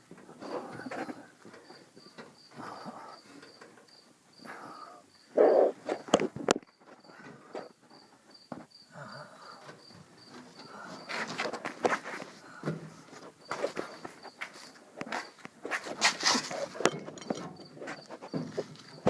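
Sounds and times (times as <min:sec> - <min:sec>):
cricket chirping: 0:00.2 - 0:19.0.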